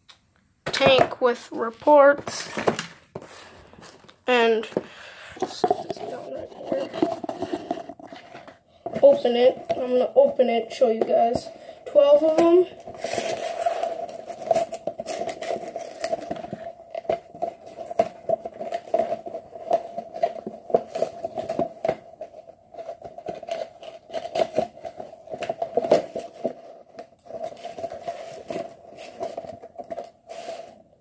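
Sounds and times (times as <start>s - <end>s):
hands handling fireworks pack: 0.7s - 31.0s.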